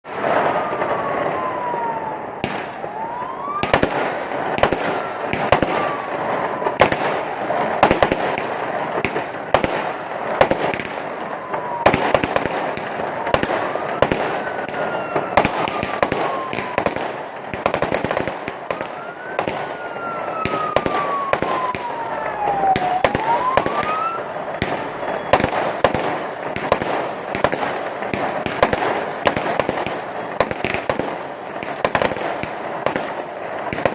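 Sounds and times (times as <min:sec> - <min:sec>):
firecrackers crackling: 0:00.0 - 0:33.9
fireworks sharp bangs: 0:00.1 - 0:33.9.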